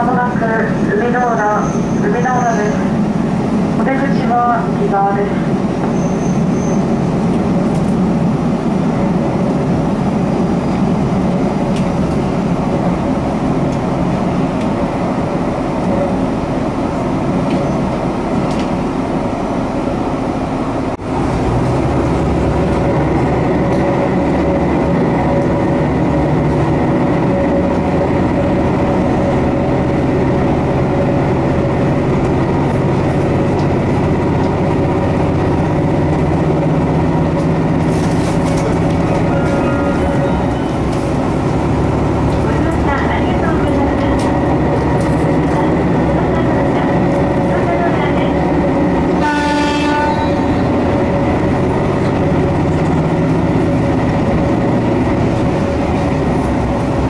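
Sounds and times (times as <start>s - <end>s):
diesel railcar engine hum: 0.0s - 57.0s
wheels rumbling on rails: 0.0s - 57.0s.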